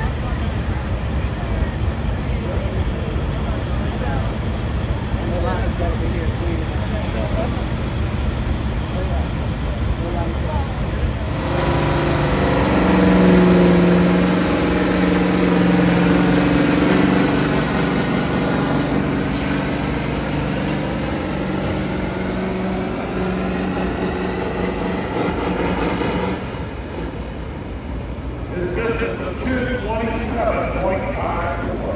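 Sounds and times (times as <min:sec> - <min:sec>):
diesel truck engine under load: 0:00.0 - 0:30.0.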